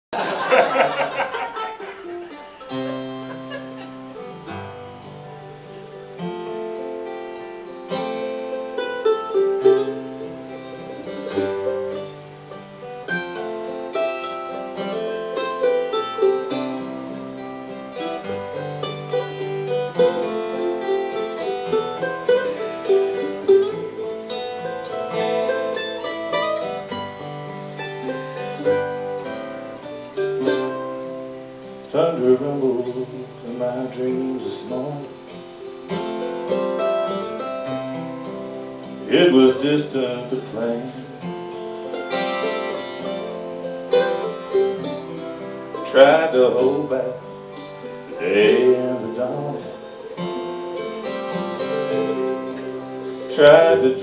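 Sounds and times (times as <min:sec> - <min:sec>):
guitar plucked notes: 0:00.4 - 0:54.0.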